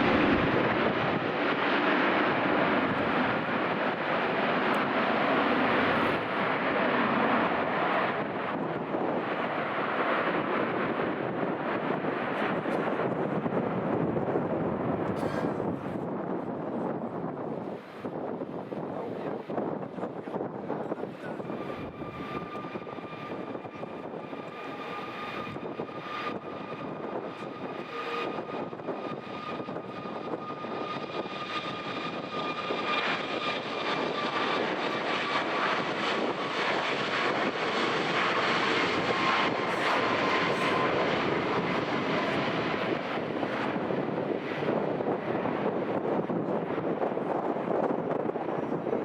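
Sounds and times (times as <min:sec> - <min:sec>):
jet engine high whine: 0:00.0 - 0:49.0
jet engine rush: 0:00.0 - 0:49.0.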